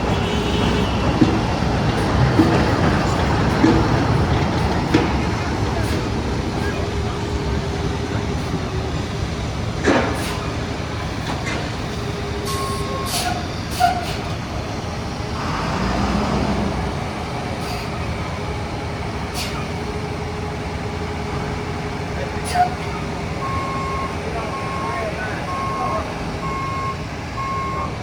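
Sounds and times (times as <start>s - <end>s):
heavy diesel engines running: 0.0s - 28.0s.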